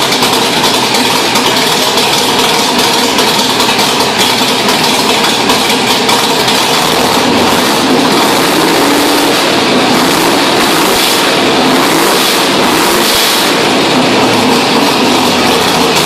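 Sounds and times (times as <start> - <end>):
loud car engine revving: 0.0 - 16.0.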